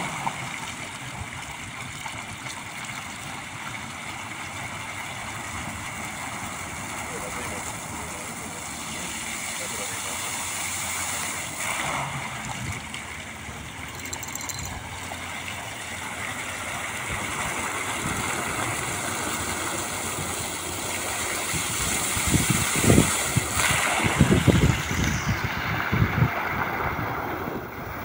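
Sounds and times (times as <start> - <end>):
fountain water splashing: 0.0 - 28.0.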